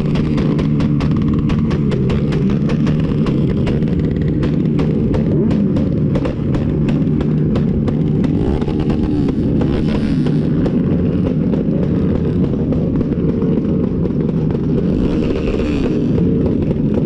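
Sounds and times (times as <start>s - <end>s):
motorcycle engines revving: 0.0s - 17.0s
sharp pops: 0.0s - 17.0s.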